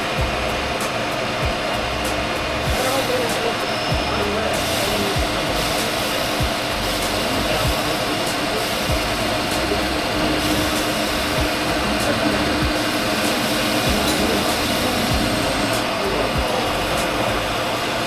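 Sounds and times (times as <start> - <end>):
machine motor whirring: 0.0 - 18.0.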